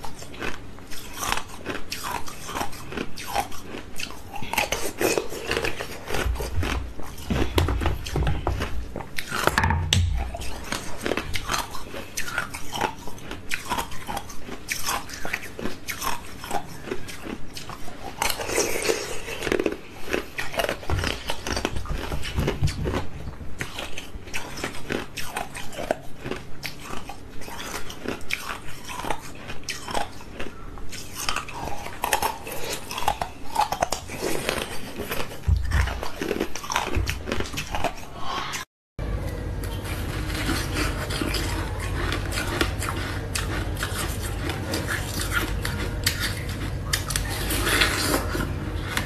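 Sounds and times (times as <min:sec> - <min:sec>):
ice being chewed: 0:00.0 - 0:38.7, 0:39.6 - 0:49.0.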